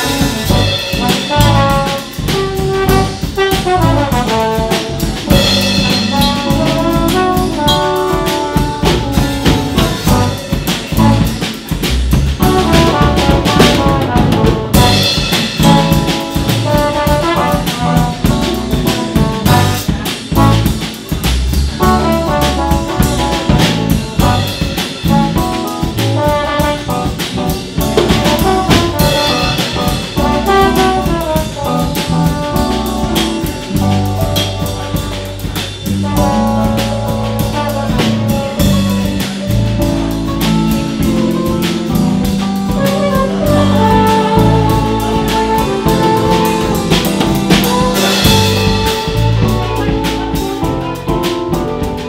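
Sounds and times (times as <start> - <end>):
drum kit: 0.0 - 52.0
electric bass: 0.0 - 52.0
trombone melody: 0.0 - 52.0.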